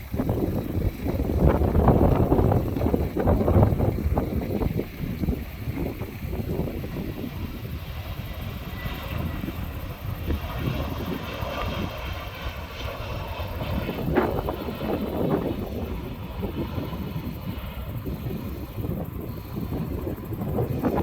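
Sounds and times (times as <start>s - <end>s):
faint high whine: 0.0s - 21.0s
jet engines rumbling: 0.0s - 21.0s.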